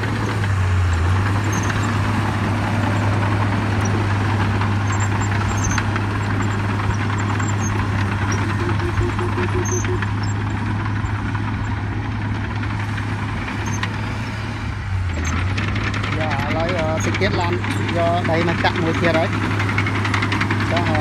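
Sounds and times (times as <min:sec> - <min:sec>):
diesel engine drone: 0:00.0 - 0:21.0
machinery rattling: 0:00.0 - 0:21.0.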